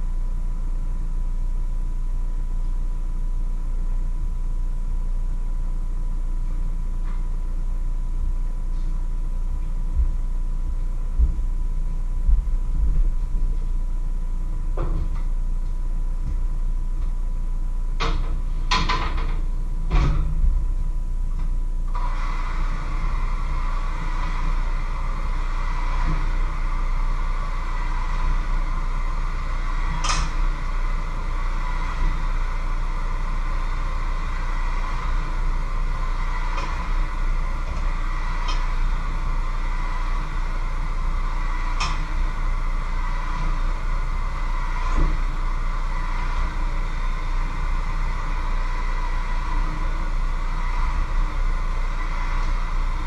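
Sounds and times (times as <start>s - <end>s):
mechanical hum: 0.0s - 53.0s.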